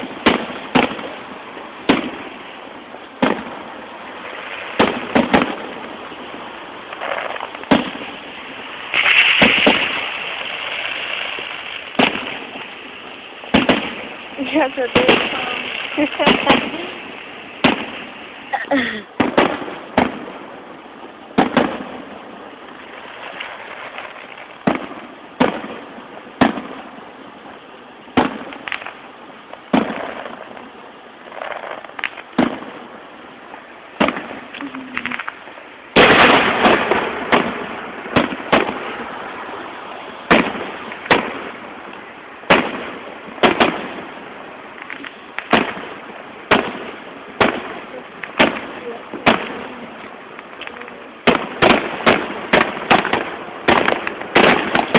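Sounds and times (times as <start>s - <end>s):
firework shells bursting: 0.0s - 20.4s, 28.1s - 30.7s, 31.3s - 32.9s, 33.6s - 54.9s.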